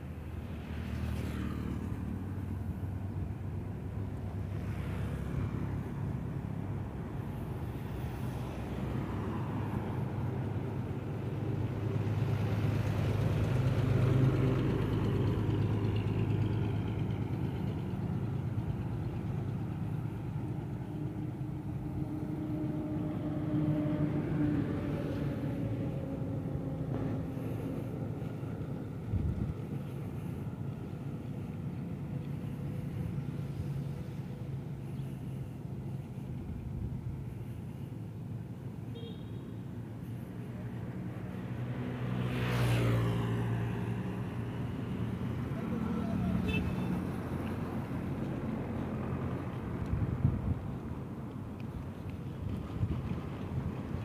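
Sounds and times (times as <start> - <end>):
large truck passing: 0.0 - 38.5, 40.1 - 54.0
highway traffic rumble: 0.0 - 54.0.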